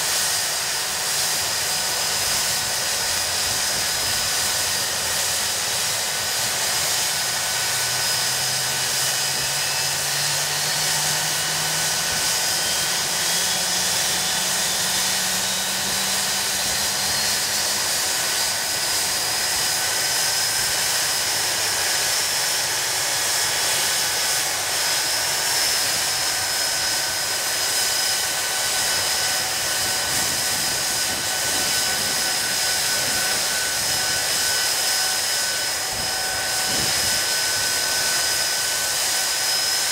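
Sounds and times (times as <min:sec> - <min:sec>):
jet engines running: 0:00.0 - 0:39.9
high whining tones: 0:01.1 - 0:39.9.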